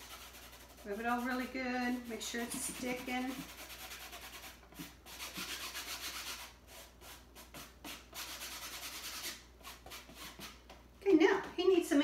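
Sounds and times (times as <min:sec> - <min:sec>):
hand rubbing paper on plastic: 0:00.0 - 0:10.6.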